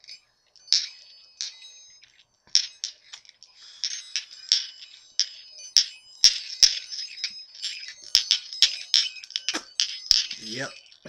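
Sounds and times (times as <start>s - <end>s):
metal balls clicking: 0.0s - 11.0s.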